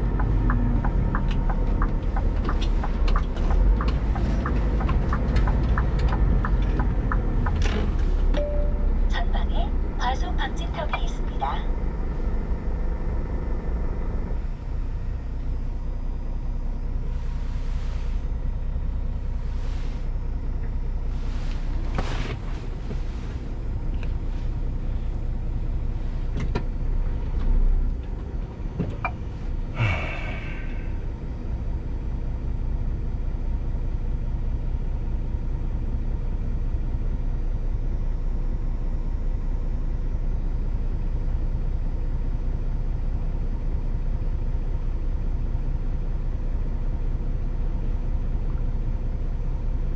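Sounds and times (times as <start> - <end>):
diesel truck engine rumble: 0.0 - 49.9.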